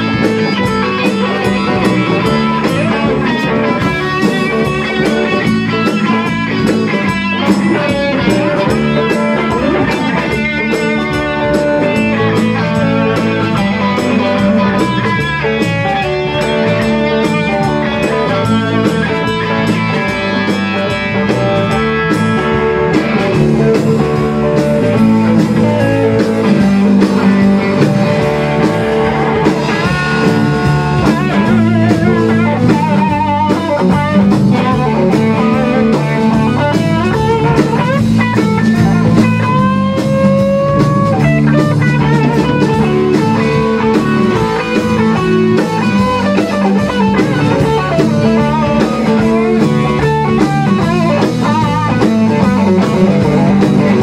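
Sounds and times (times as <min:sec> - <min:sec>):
drum kit: 0:00.0 - 0:54.0
electric guitars: 0:00.0 - 0:54.0
lead guitar with string bends: 0:00.0 - 0:54.0.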